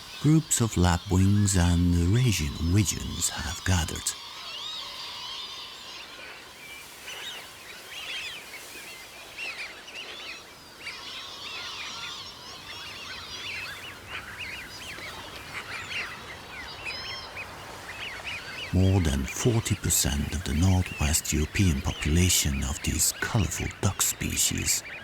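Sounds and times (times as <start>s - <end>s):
flock of birds whistling: 0.0s - 23.8s.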